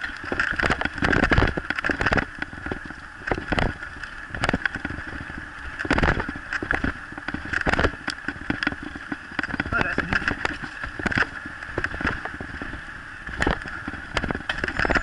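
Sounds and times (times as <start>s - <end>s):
scooter wheels rattling on dirt: 0.0s - 15.0s.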